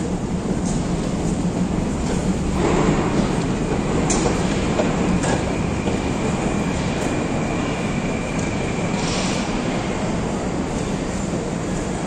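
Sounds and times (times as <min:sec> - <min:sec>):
metro train rumble: 0:00.0 - 0:12.0.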